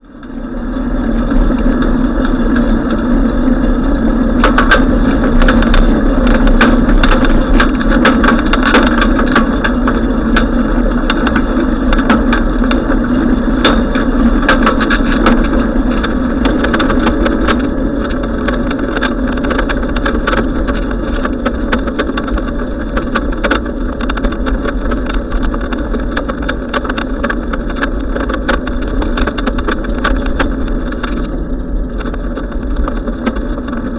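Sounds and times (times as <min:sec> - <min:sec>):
bicycle clicks and rattles: 0:00.0 - 0:33.9
wind and road noise: 0:00.0 - 0:33.9.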